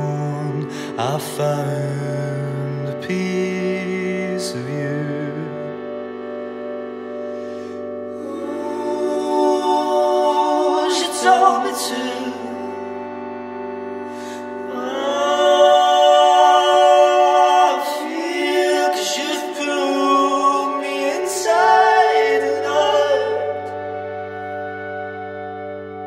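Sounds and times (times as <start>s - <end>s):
drone-like chords: 0.0s - 26.0s
wordless vocal held notes: 0.0s - 26.0s.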